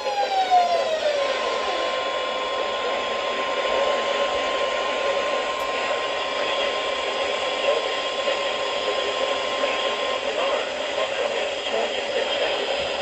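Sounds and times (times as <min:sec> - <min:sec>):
steady high alarm tone: 0:00.0 - 0:10.8
radio static hiss: 0:00.0 - 0:13.0.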